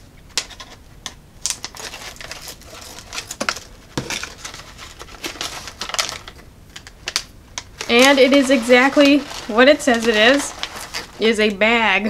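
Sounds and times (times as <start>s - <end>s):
snack bag crinkling: 1.4s - 11.6s.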